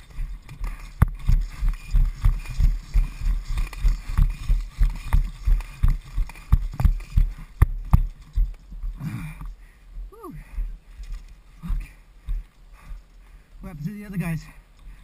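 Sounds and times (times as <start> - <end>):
running footsteps on gravel: 0.0 - 9.6, 10.4 - 15.0.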